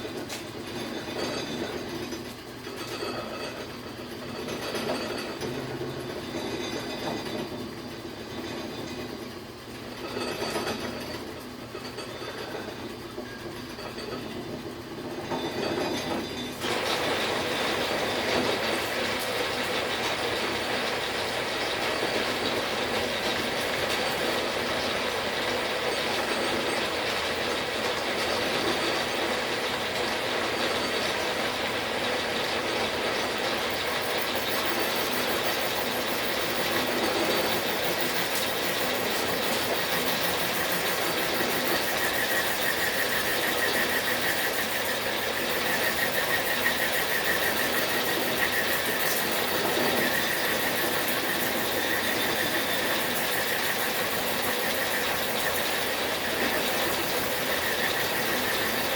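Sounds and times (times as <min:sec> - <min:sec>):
machine tool clattering with squeal: 0:00.0 - 0:58.9.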